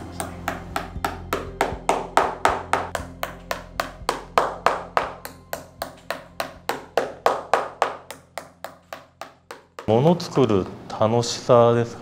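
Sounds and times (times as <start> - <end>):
hammer striking drum tacks: 0.2 - 10.2.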